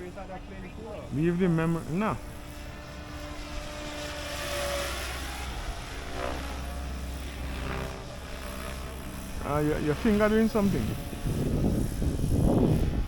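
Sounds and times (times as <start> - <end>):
rc helicopter rotor whine: 0.0 - 13.0.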